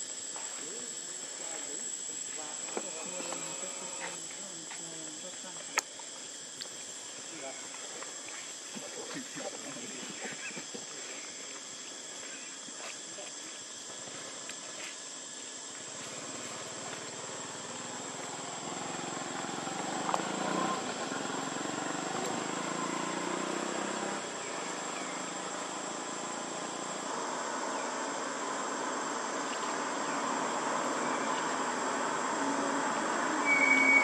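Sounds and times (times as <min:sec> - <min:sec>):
broad hiss: 0:00.0 - 0:33.8
high-pitched insect drone: 0:00.0 - 0:34.0.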